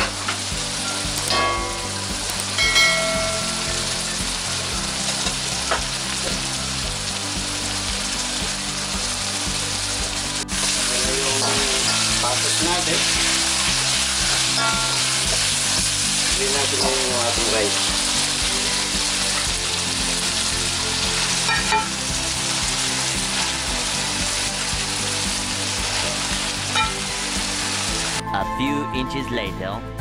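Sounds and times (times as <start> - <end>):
food sizzling in a wok: 0.0 - 28.2.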